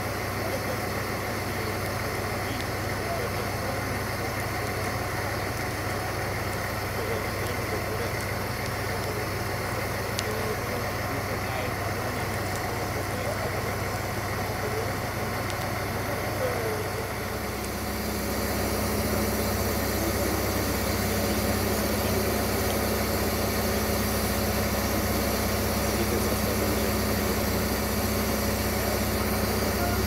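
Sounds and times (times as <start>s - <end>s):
locomotive diesel engine drone: 0.0s - 30.0s
steady hum: 0.0s - 30.0s.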